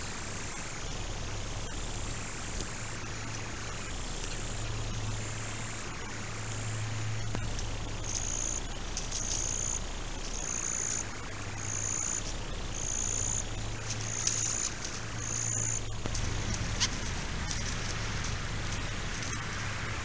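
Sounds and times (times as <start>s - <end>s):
insect buzzing call: 0.0s - 20.0s
low steady hum: 0.0s - 20.0s.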